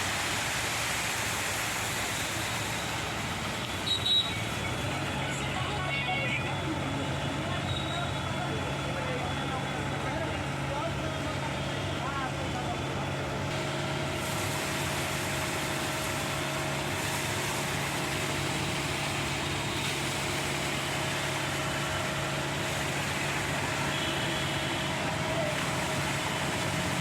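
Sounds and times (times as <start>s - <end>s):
concrete pouring down chute: 0.0s - 27.0s
diesel engine running: 1.4s - 27.0s.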